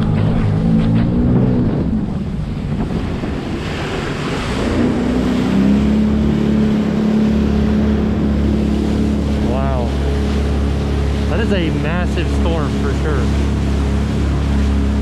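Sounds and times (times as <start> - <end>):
wind buffeting microphone: 0.0 - 12.1
jet ski engine running: 0.0 - 15.0.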